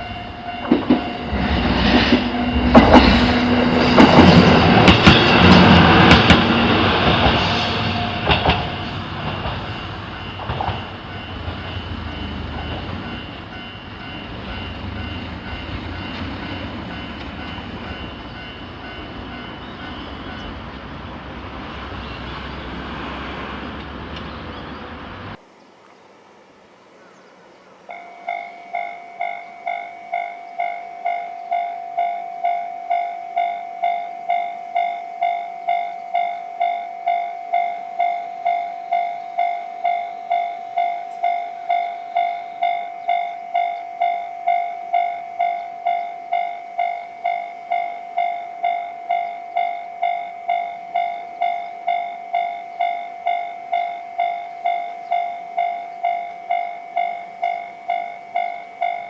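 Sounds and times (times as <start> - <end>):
level crossing warning bell ringing: 0.0 - 20.8, 27.9 - 59.0
train passing: 0.0 - 59.0.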